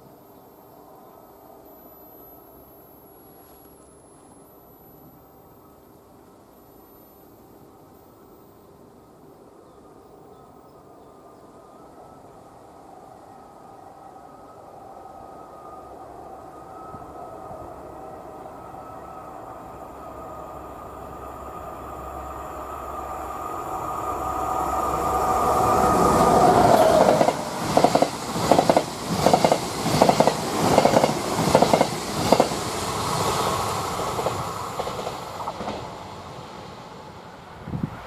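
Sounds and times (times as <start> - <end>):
train passing with whine: 0.0 - 38.0.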